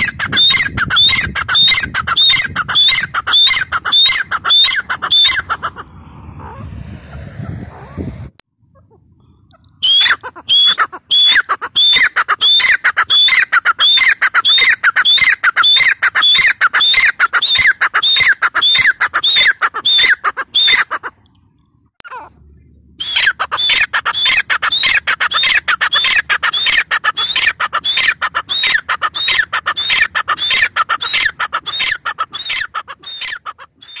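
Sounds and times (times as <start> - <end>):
bird calling shrill repeated notes: 0.0 - 5.8, 9.5 - 21.1, 23.0 - 34.0.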